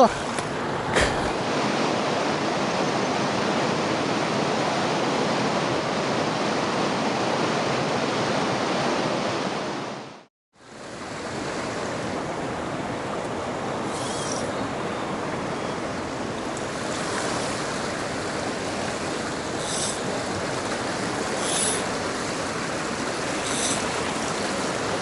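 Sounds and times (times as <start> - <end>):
river water over rapids: 0.0 - 25.0.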